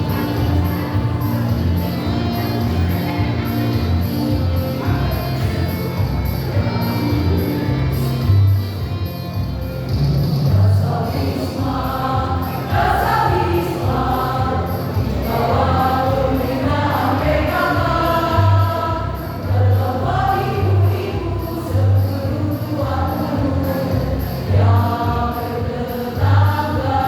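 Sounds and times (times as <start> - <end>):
choir singing with accompaniment: 0.0 - 27.0.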